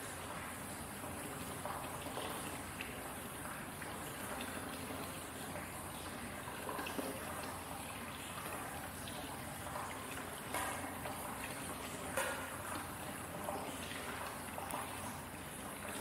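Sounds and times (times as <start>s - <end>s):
water splashes: 0.0s - 16.0s
water trickling into bath: 0.0s - 16.0s.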